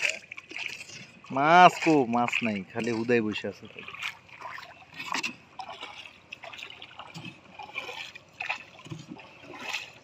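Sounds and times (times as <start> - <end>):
oar pulling through water: 0.0 - 10.0
water trickling and splashing: 0.0 - 10.0.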